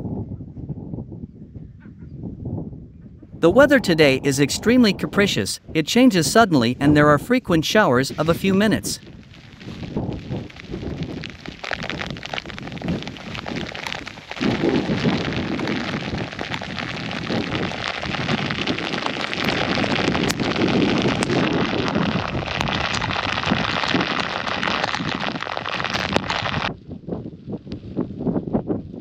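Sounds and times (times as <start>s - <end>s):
wind buffeting microphone: 0.0s - 7.6s, 8.8s - 29.0s
rain pattering: 3.4s - 26.8s.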